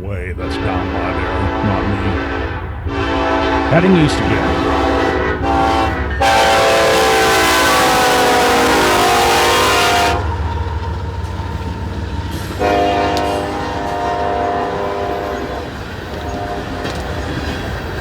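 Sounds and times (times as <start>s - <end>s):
engine and rail rumble: 0.0s - 18.0s
locomotive air horn blasts: 0.4s - 17.3s.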